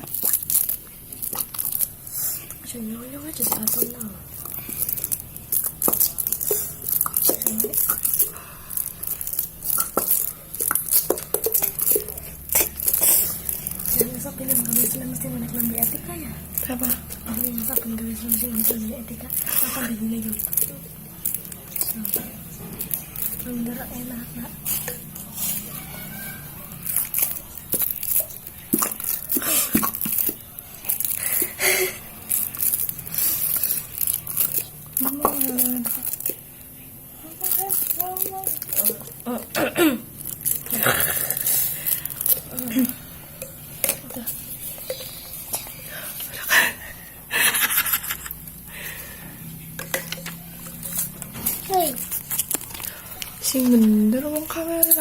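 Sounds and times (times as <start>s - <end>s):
slime crinkling and squishing: 0.0s - 46.4s, 49.8s - 55.0s.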